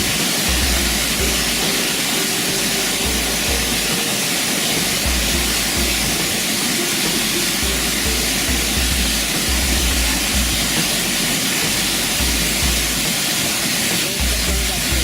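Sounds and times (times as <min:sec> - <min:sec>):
deep bass beat: 0:00.0 - 0:13.4, 0:14.2 - 0:15.0
faint melody notes: 0:00.0 - 0:15.0
waterfall rushing: 0:00.0 - 0:15.0.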